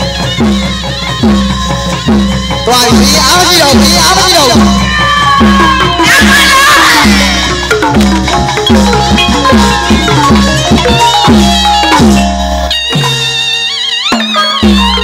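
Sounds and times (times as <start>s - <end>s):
sustained high melody: 0.0s - 15.0s.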